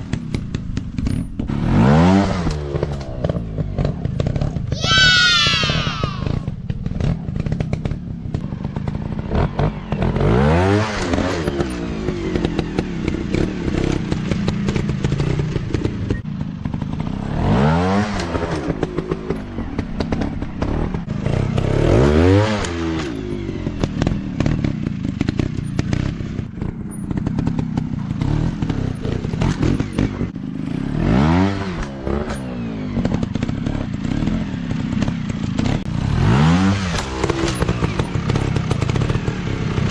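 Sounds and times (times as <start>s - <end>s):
dirt bike engine revving: 1.4s - 39.9s.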